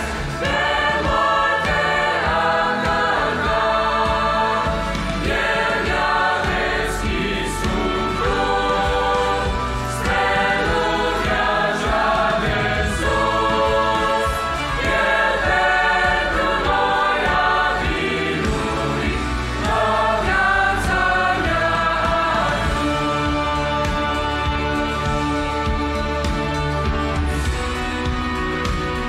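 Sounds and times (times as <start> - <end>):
mixed choir singing a hymn: 0.0 - 28.8.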